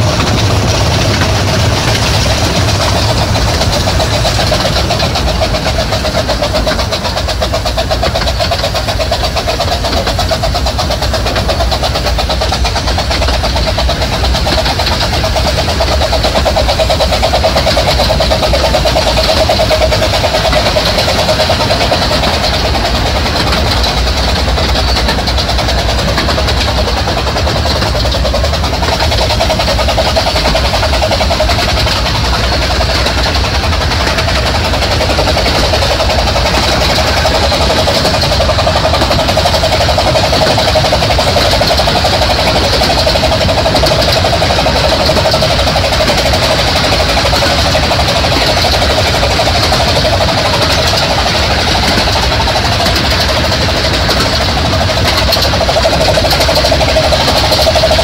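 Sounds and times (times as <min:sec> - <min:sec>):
train wheels rattling on rails: 0:00.0 - 0:58.0.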